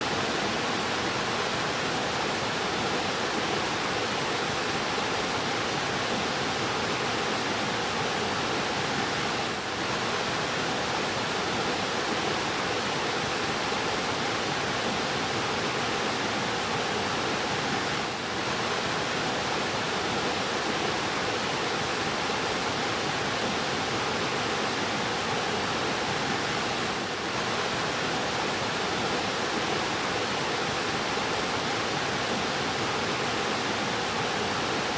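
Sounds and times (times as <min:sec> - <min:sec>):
fast-flowing river: 0:00.0 - 0:34.9.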